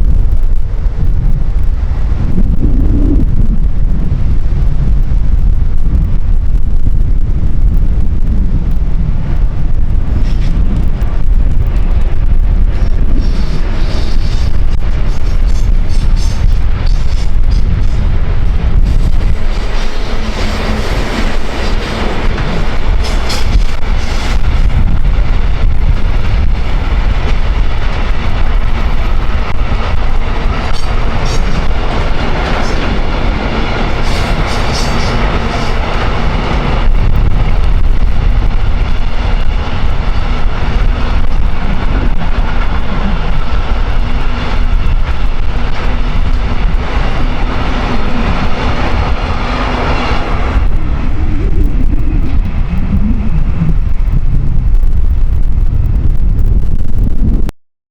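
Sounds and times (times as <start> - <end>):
wind rumble on microphone: 0.0 - 57.6
train running past: 8.7 - 56.1.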